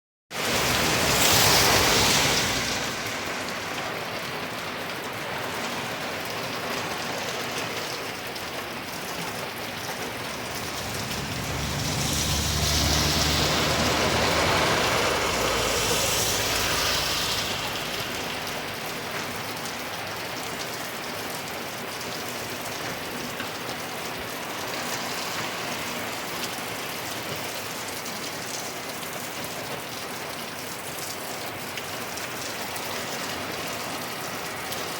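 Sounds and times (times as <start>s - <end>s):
hard rain falling: 0.3s - 34.9s
vehicle passing on wet road: 0.4s - 34.9s.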